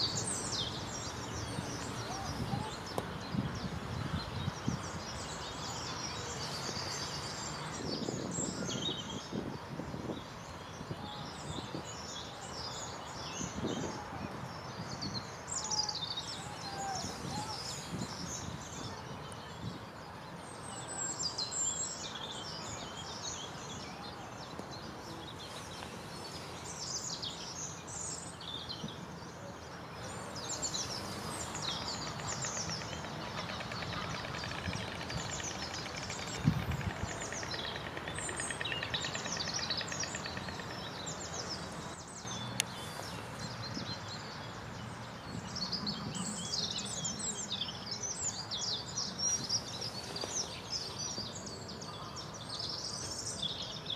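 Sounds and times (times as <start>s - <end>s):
outdoor background noise: 0.0s - 53.9s
songbirds chirping and singing: 0.0s - 53.9s.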